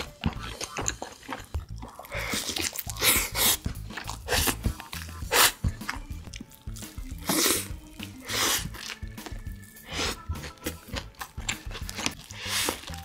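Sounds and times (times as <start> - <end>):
background music: 0.0 - 13.0
crunching and smacking while eating: 0.0 - 13.0.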